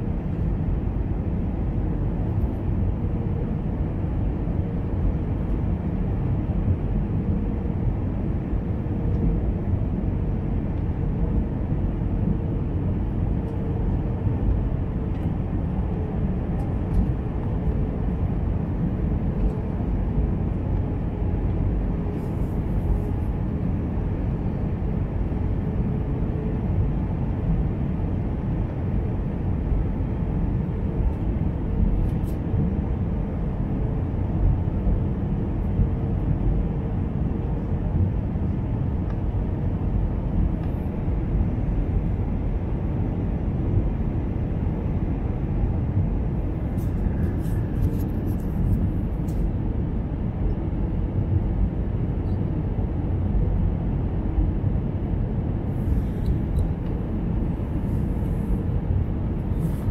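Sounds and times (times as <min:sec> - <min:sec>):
aircraft cabin engine and airflow rush: 0:00.0 - 0:59.9
faint steady hum: 0:00.0 - 0:59.9.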